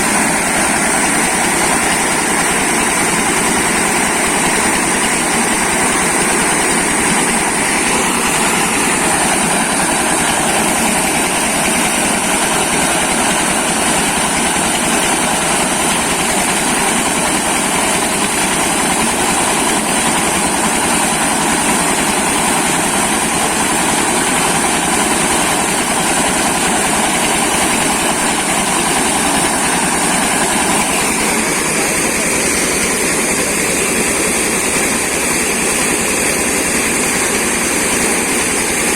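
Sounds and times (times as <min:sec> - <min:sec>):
milling machine whining: 0:00.0 - 0:38.9.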